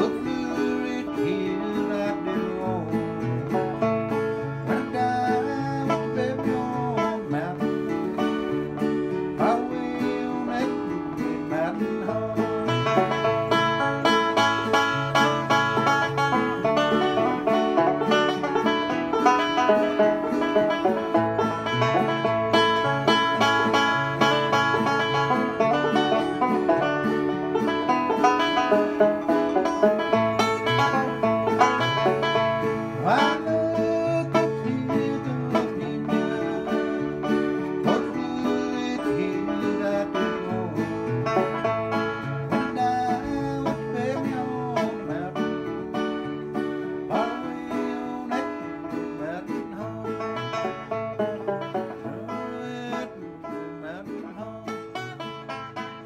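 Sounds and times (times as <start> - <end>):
banjo picking: 0.0 - 56.0
guitar: 0.0 - 56.0.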